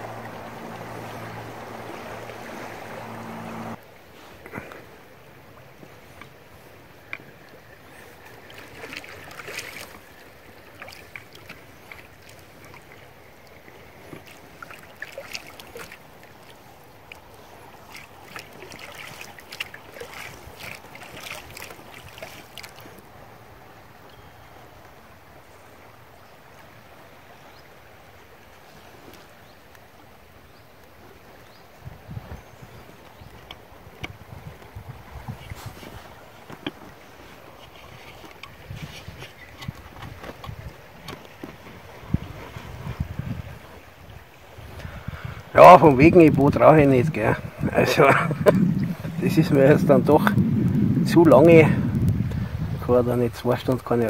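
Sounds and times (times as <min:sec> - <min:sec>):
water lapping against boat hull: 0:00.0 - 0:54.0.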